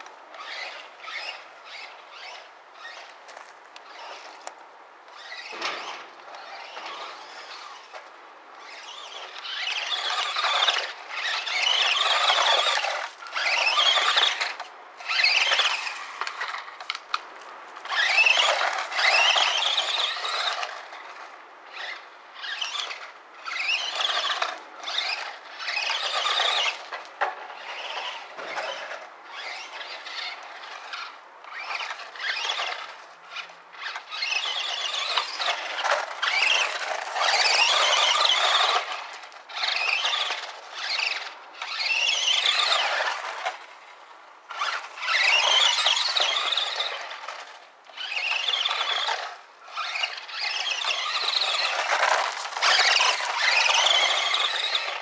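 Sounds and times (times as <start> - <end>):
toy car electric motor whining: 0.0 - 17.0, 17.8 - 43.8, 44.5 - 55.0.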